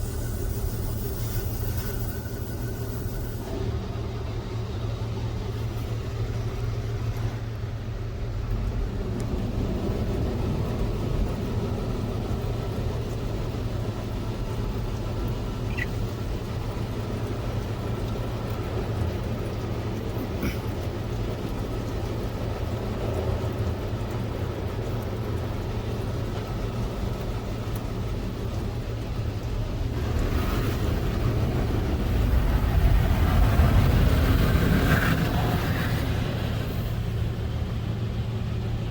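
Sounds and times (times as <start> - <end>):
car wash machinery rumble: 0.0 - 38.9.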